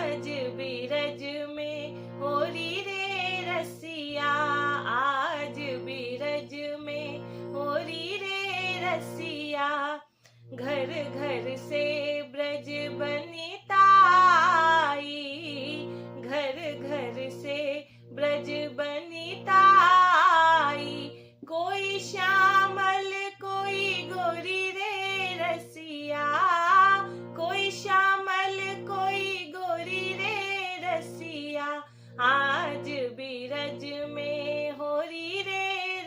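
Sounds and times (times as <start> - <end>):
held instrumental notes: 0.0 - 35.7
woman singing folk song: 0.0 - 36.0.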